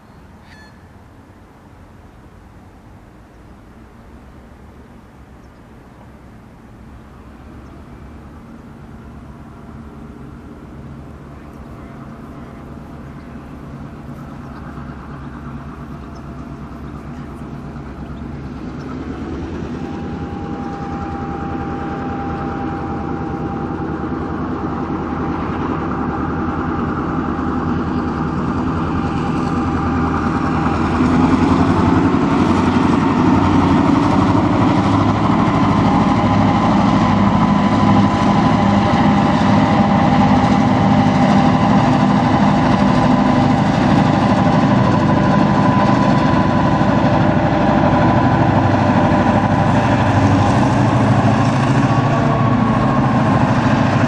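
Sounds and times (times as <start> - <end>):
diesel locomotive engines: 0.0 - 54.0
high whine: 9.2 - 54.0.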